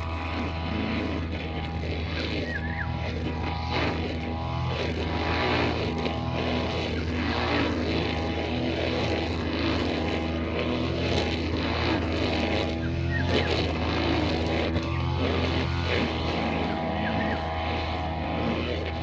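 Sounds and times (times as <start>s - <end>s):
brushcutter engine running: 0.0s - 19.0s.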